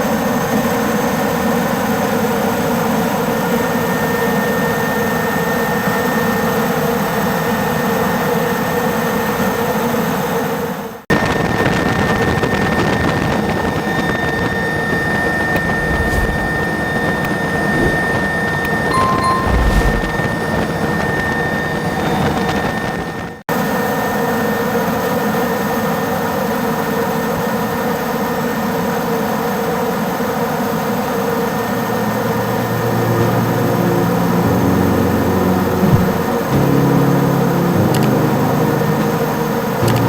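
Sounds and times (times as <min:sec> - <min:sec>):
helicopter turbine and rotor noise: 0:00.0 - 0:19.4, 0:20.0 - 0:40.0.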